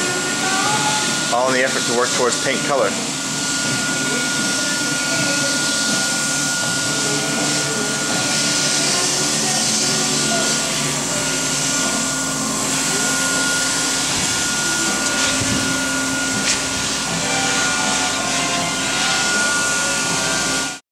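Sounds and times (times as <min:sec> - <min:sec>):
machine motor droning with whine: 0:00.0 - 0:20.8.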